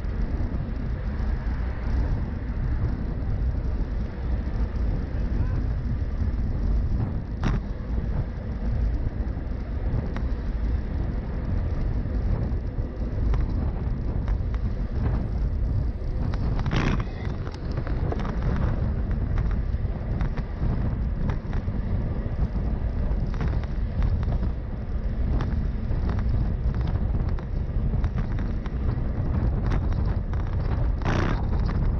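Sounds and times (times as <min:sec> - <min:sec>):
traffic noise: 0:00.0 - 0:31.9
wind buffeting microphone: 0:00.0 - 0:31.9.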